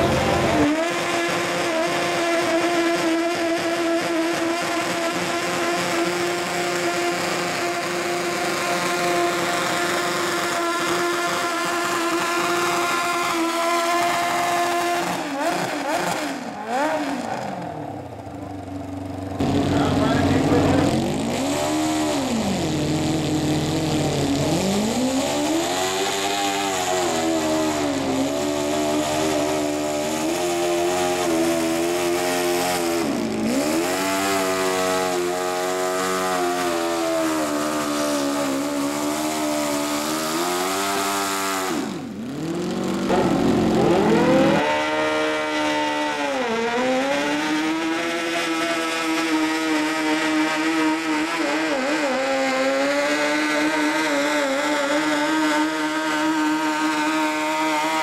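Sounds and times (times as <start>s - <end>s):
lawn mower engine revving hard: 0.0s - 58.0s
second mower engine revving: 0.0s - 58.0s.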